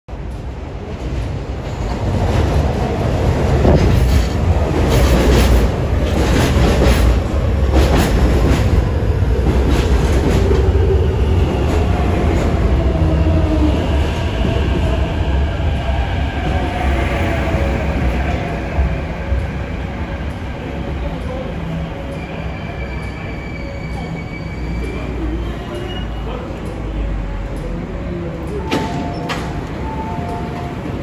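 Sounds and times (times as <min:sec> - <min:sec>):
metro train rumbling: 0:00.1 - 0:31.0
rail clatter and clicks: 0:00.1 - 0:31.0.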